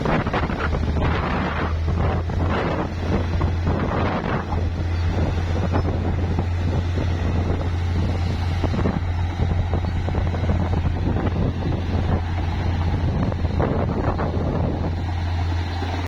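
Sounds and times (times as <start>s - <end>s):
diesel engine droning: 0.0s - 16.0s
wind buffeting microphone: 0.0s - 16.0s.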